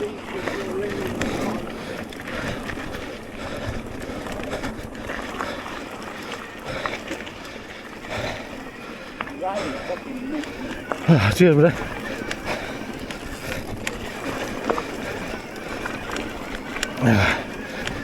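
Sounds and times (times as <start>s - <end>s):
bike rattling and knocking: 0.0s - 18.0s
bike tyres rolling on dirt: 0.0s - 18.0s.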